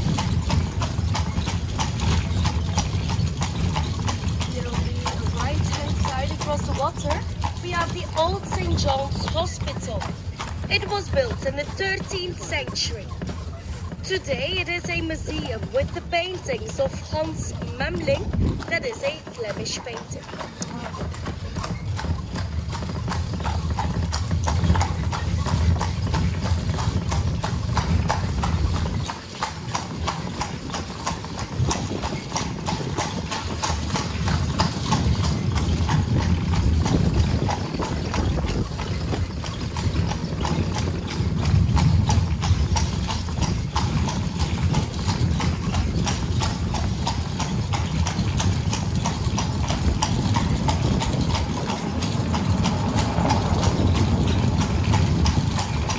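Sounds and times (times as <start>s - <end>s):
carriage wheels rumbling on cobbles: 0.0s - 55.9s
horse hooves on cobblestones: 0.0s - 55.9s.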